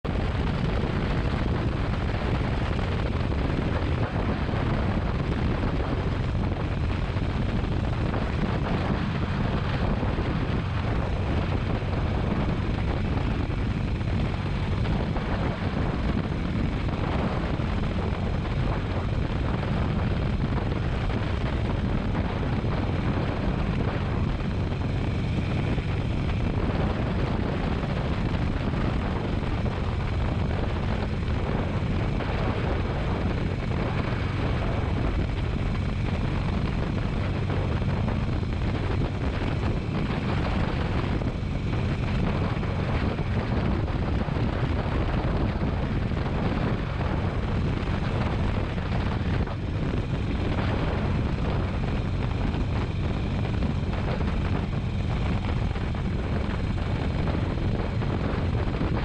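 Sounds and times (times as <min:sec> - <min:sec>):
motorcycle engine rumble: 0:00.0 - 0:59.0
wind rushing: 0:00.0 - 0:59.0.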